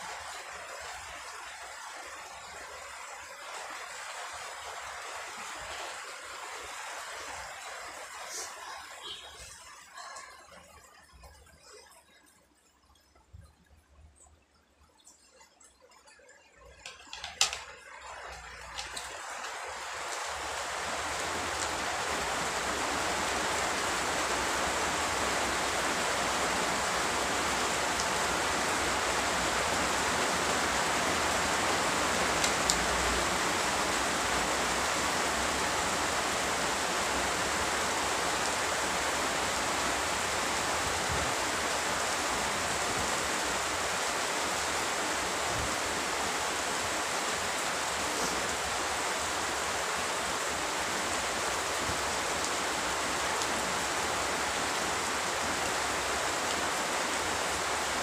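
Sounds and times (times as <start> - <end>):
steady rain hiss: 0.0 - 15.3, 16.6 - 58.0.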